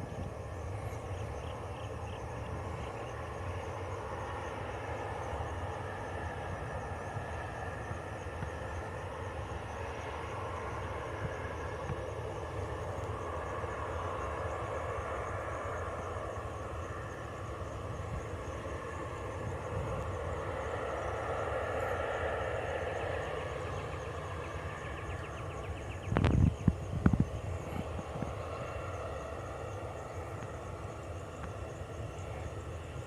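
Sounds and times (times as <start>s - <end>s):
jet engines rumbling: 0.0s - 33.0s.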